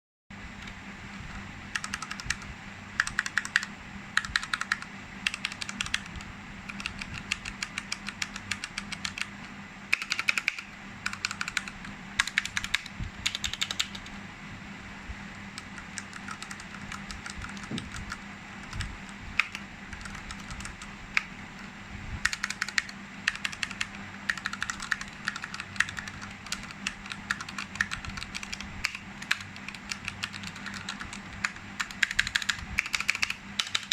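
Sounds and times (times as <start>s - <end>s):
mechanical keyboard typing: 0.6s - 14.2s, 15.3s - 33.9s.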